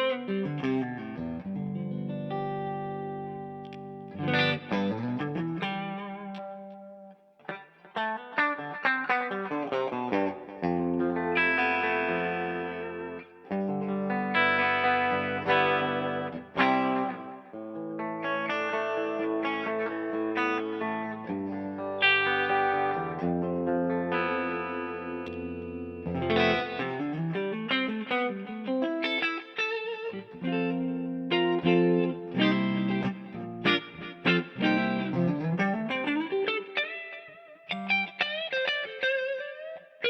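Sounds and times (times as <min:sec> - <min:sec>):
electric guitar with delay and reverb: 0:00.0 - 0:40.0.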